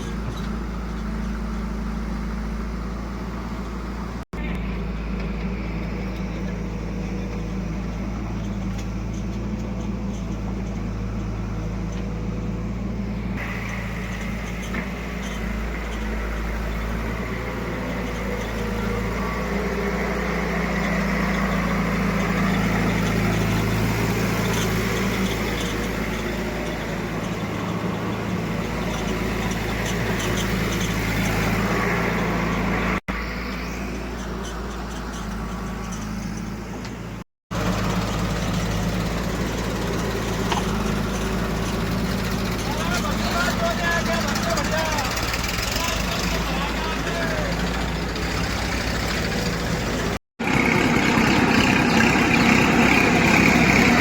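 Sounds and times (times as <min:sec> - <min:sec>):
heavy diesel engines running: 0:00.0 - 0:54.0.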